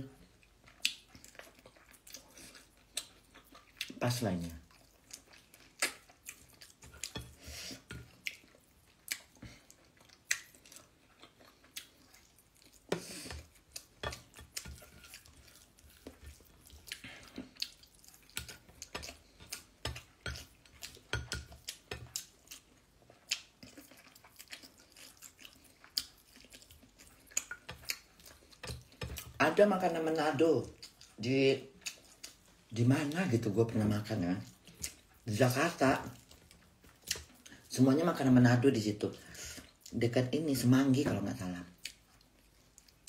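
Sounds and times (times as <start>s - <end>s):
person chewing with wet smacks: 0.0s - 33.4s, 34.0s - 37.8s, 39.6s - 40.1s, 41.4s - 43.0s.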